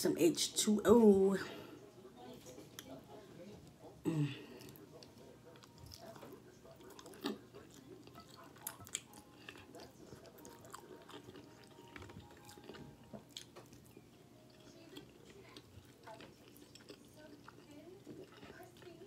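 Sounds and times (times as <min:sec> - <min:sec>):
quiet chewing: 0:01.8 - 0:19.0.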